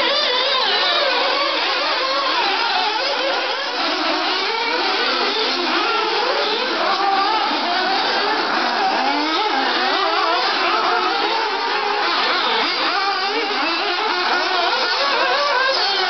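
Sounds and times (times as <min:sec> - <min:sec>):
model car engines revving: 0:00.0 - 0:16.0.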